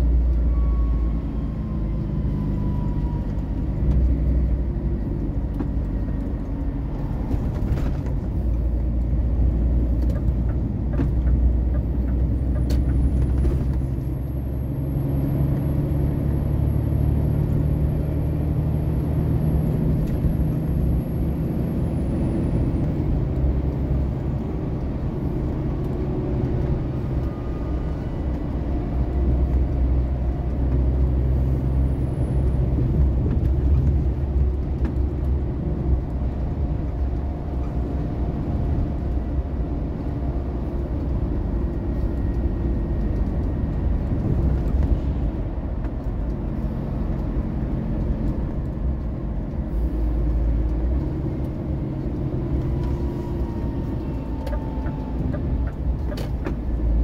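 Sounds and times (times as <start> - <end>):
engine drone and tyre noise: 0.0 - 57.0.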